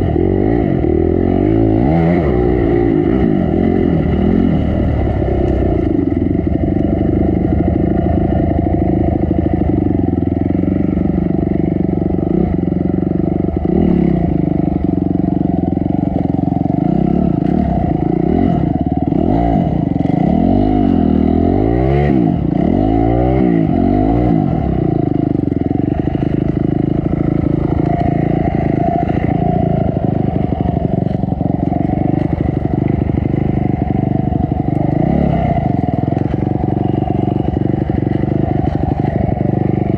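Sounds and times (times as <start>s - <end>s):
dirt bike engine revving: 0.0s - 9.8s, 13.3s - 14.9s, 15.6s - 39.9s.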